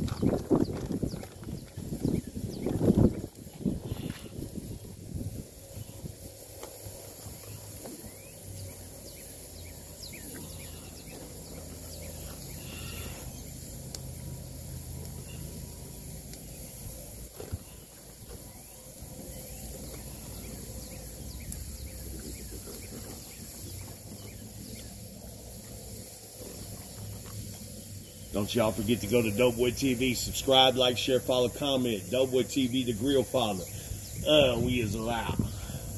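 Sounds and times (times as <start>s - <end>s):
low steady rumble: 0.0s - 35.9s.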